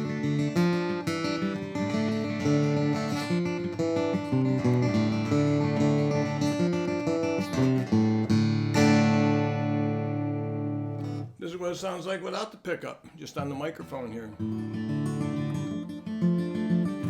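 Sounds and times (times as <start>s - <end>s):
amplified acoustic guitar: 0.0s - 17.0s.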